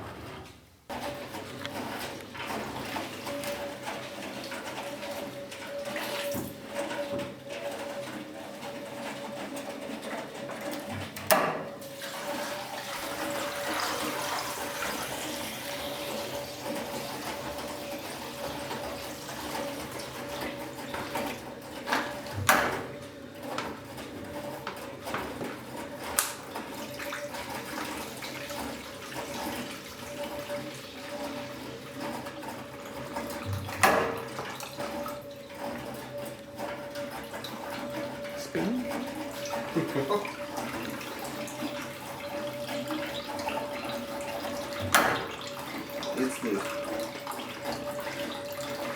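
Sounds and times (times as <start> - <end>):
washing machine motor hum: 0.0 - 48.9.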